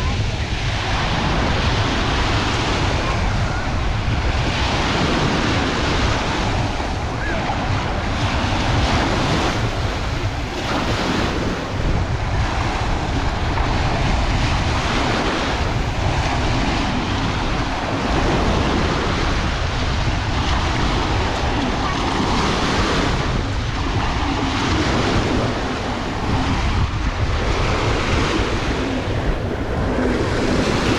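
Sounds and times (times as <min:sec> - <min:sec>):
sea waves washing onto beach: 0:00.0 - 0:30.9
wind buffeting microphone: 0:00.0 - 0:30.9.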